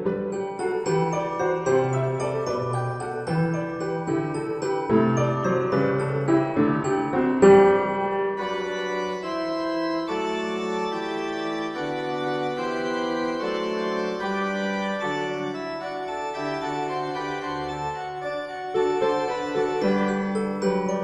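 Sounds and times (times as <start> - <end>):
organ-like chords: 0.0 - 21.0.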